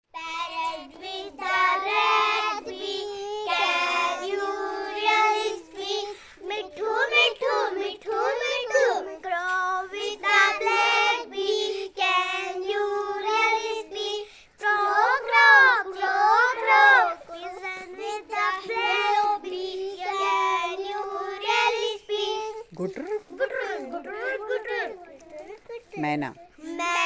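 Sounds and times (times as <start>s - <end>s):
child singing: 0.0s - 27.0s.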